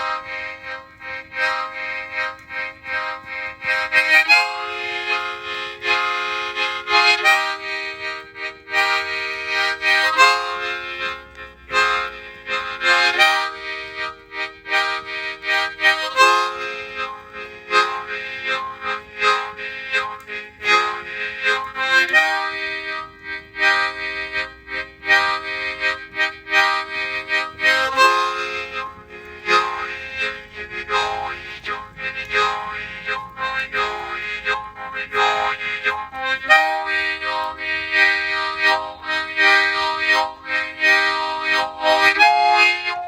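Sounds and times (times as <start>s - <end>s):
harmonica playing chords: 0.0s - 43.0s.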